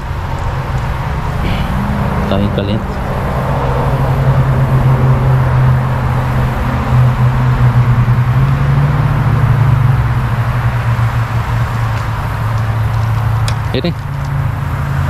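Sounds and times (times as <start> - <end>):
road noise hiss: 0.0 - 15.0
traffic hum: 0.0 - 15.0.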